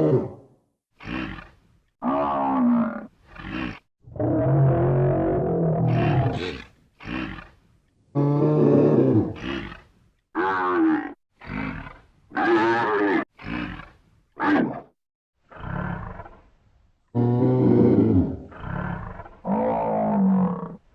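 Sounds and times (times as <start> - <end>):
buffalo bellowing and grunting: 1.0 - 7.6, 8.2 - 14.9, 17.2 - 20.8.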